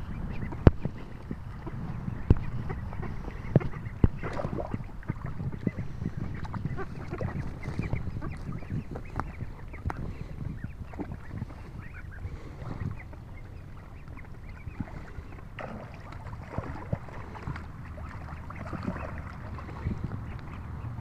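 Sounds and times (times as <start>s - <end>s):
birds splashing in water: 0.0s - 21.0s.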